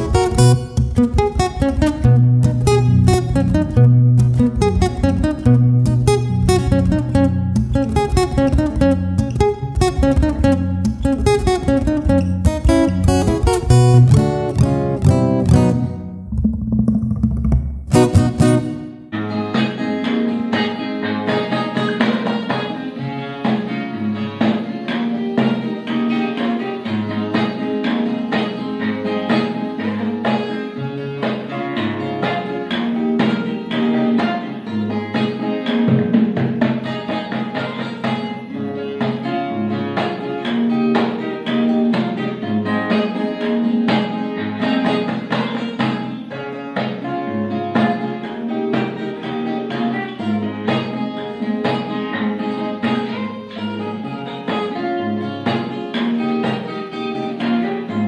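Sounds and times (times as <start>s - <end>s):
plucked guitar music: 0.0s - 58.0s.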